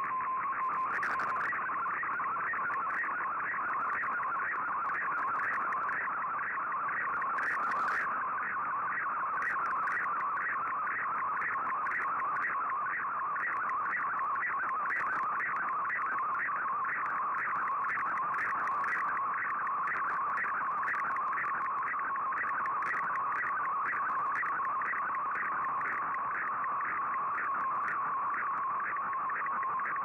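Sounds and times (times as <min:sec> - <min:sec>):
warbling data tones: 0:00.0 - 0:30.0.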